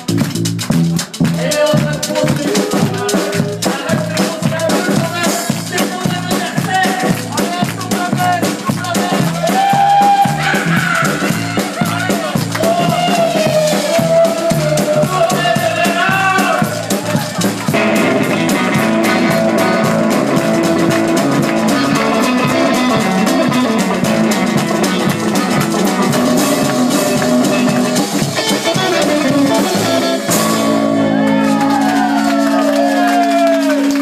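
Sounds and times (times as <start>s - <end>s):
live rockabilly band playing: 0.0s - 34.0s.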